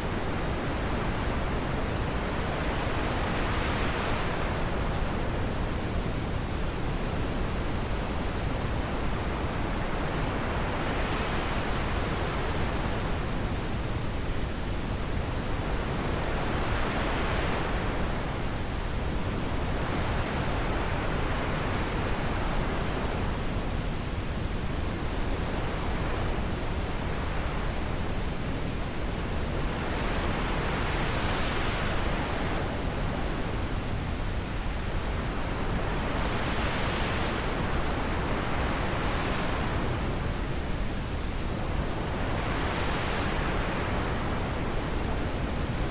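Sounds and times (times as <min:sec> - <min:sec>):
wind blowing in gusts: 0:00.0 - 0:45.9.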